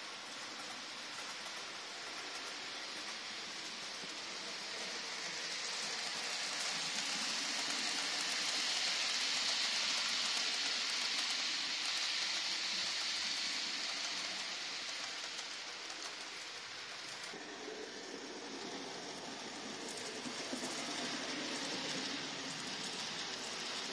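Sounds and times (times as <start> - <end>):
model train wheels hissing on rails: 0.0 - 23.9.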